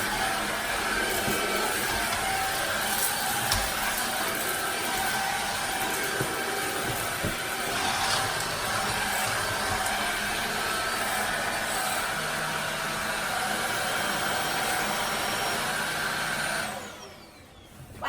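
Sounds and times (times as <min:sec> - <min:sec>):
stick vacuum running: 0:00.0 - 0:18.0.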